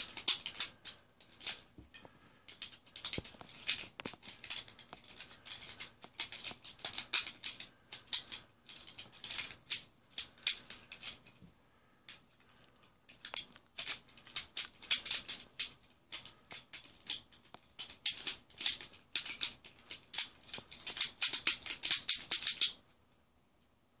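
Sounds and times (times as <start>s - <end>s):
plastic puzzle pieces clicking: 0.0s - 1.6s, 2.5s - 11.4s, 12.1s - 22.8s.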